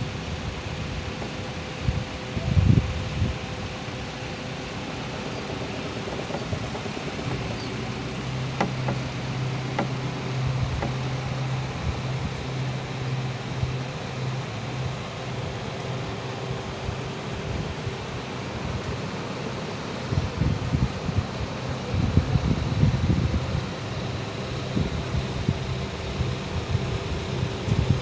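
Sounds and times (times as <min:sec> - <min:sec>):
hydraulic boom drive humming: 0:00.0 - 0:28.0.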